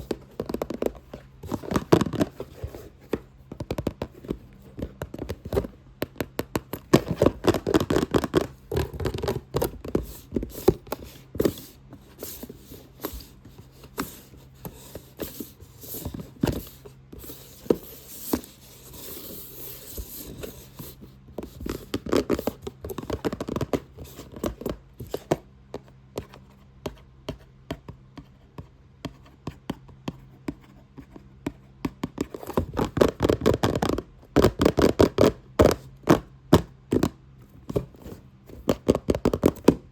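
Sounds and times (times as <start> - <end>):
rapid tapping on a box: 0.0 - 39.9
scratching on a box: 0.0 - 39.9.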